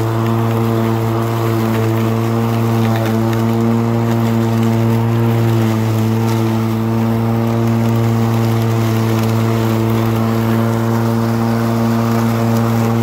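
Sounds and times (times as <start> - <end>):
electric lawn mower humming: 0.0 - 13.0.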